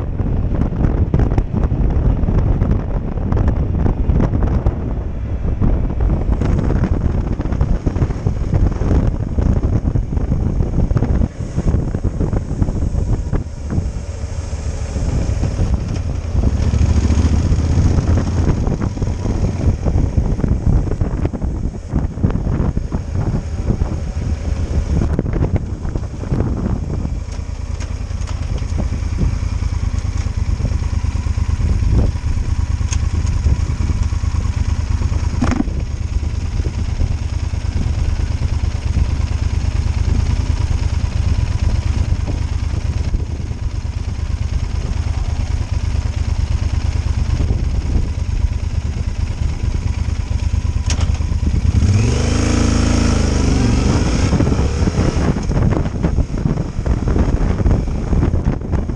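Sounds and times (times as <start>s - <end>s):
motorcycle engine running: 0.0s - 58.9s
wind rumble on microphone: 0.0s - 58.9s.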